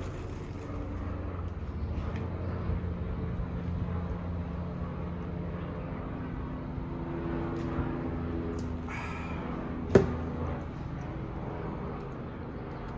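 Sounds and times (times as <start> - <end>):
low engine drone and rumble: 0.0 - 12.9.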